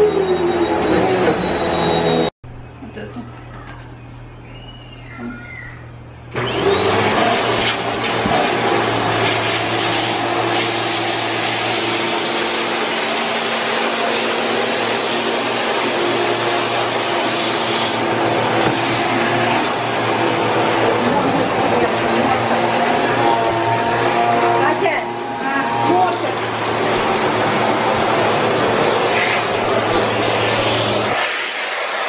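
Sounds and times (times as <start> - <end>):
vacuum cleaner motor whine: 0.0 - 2.3, 6.3 - 32.0.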